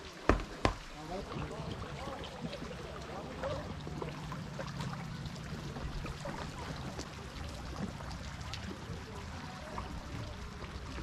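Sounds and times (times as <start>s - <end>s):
water lapping around kayak: 0.0s - 11.0s
low steady drone: 1.2s - 11.0s.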